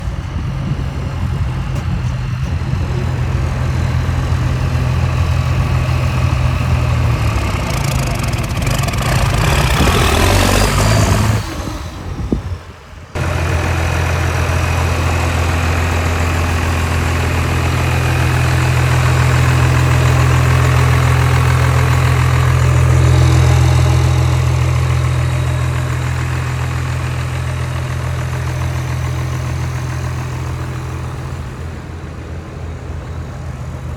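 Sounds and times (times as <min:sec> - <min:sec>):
rising rush: 0:00.0 - 0:33.9
truck engine idling: 0:00.0 - 0:33.9.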